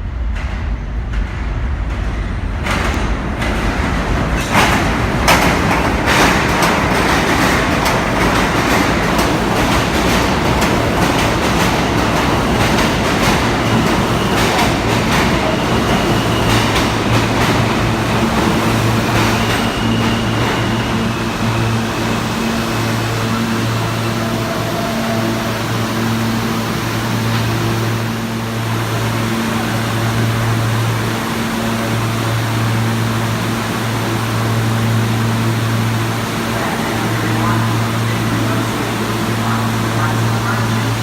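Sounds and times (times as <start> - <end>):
subway train rumbling on rails: 0.0 - 41.0.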